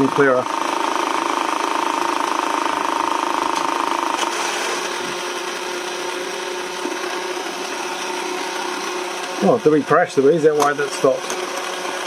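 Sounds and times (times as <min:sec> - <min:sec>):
electric motor buzzing whir: 0:00.0 - 0:12.0.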